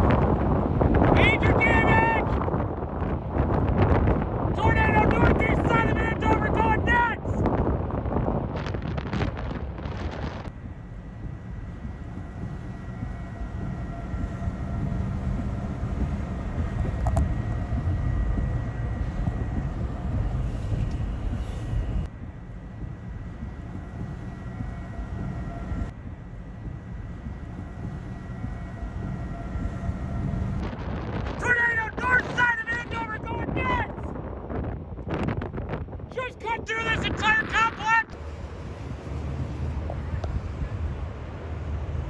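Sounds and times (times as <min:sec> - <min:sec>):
tornado roar: 0:00.0 - 0:42.0.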